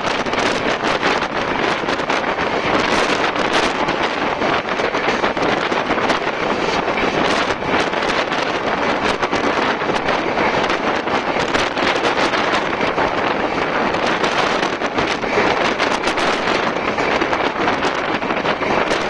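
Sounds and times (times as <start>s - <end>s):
train wind and running noise: 0.0s - 19.0s
wind buffeting microphone: 0.0s - 19.0s.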